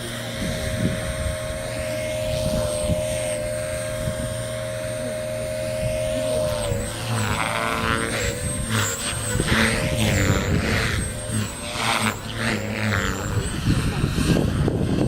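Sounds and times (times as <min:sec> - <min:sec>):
rc helicopter motor whine: 0:00.0 - 0:15.0
wind buffeting microphone: 0:00.2 - 0:15.0.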